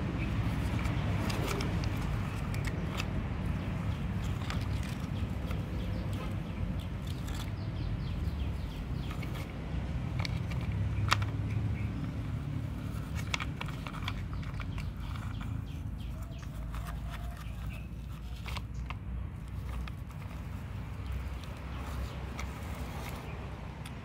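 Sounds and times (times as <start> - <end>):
plastic clicking against plastic: 0.2 - 24.0
toy trucks pushed over dirt: 0.2 - 24.0.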